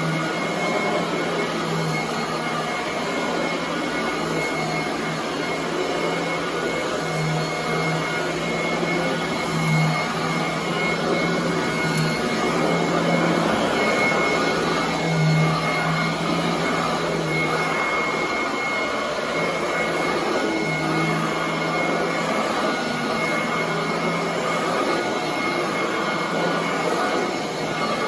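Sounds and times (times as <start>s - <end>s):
vacuum cleaner on carpet: 0.0s - 28.0s.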